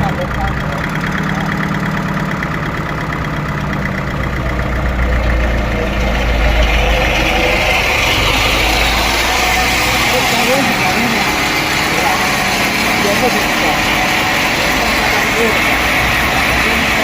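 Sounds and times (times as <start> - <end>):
sawmill machinery hum: 0.0 - 17.0.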